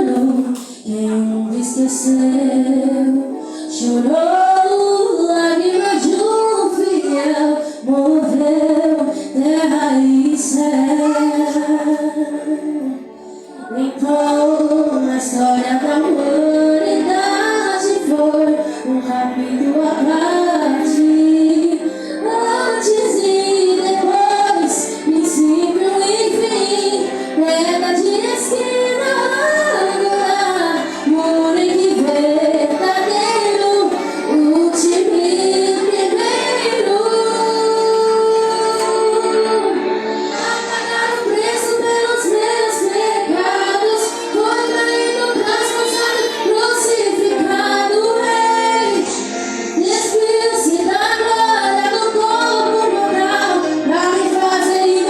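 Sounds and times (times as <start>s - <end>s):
musical accompaniment: 0.0s - 55.0s
woman singing: 0.0s - 55.0s.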